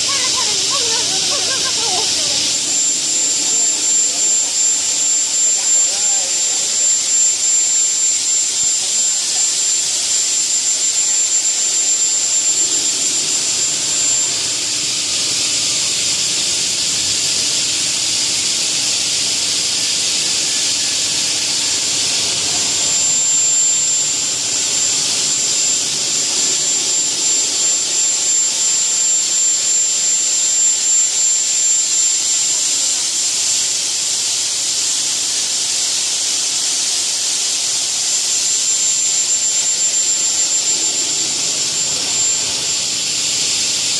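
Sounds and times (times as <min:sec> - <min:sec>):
cutting saw hissing: 0:00.0 - 0:43.9
high-pitched whine: 0:00.0 - 0:43.9.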